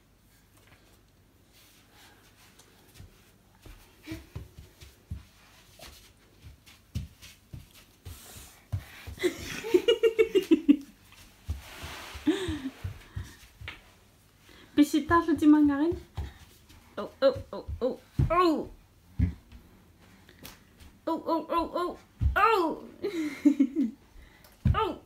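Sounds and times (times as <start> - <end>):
toddler footsteps on wooden floor: 0.6 - 22.7.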